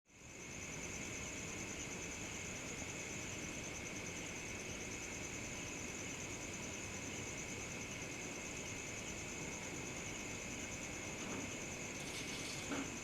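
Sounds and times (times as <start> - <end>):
crickets trilling: 0.1 - 13.0.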